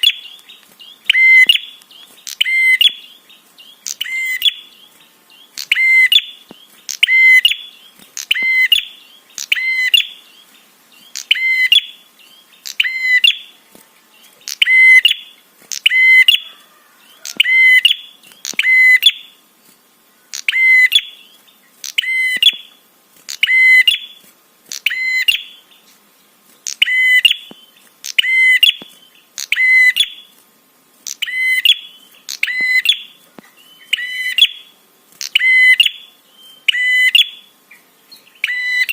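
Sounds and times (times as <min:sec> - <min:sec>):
bird high-pitched call: 0:00.0 - 0:13.6, 0:14.4 - 0:19.4, 0:20.3 - 0:25.9, 0:26.6 - 0:30.3, 0:31.0 - 0:38.9.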